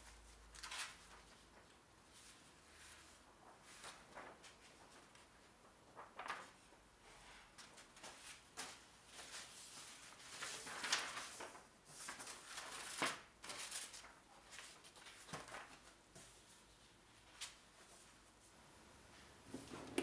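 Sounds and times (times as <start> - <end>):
paper pages rustling: 0.1 - 18.2.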